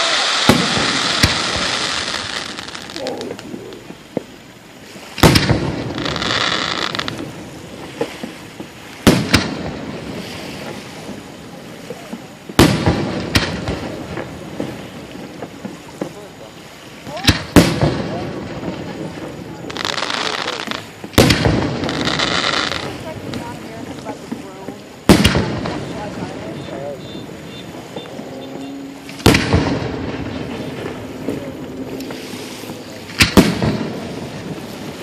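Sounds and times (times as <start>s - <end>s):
small fireworks pops: 0.0s - 4.4s, 5.1s - 7.3s, 7.9s - 9.8s, 11.8s - 28.2s, 29.1s - 35.0s
fireworks booming: 0.0s - 35.0s
fireworks crackling fizz: 0.0s - 35.0s.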